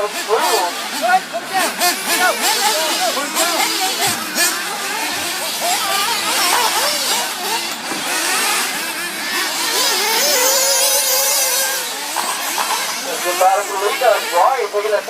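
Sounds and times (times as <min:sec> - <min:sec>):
rc buggy motors whining: 0:00.0 - 0:15.0.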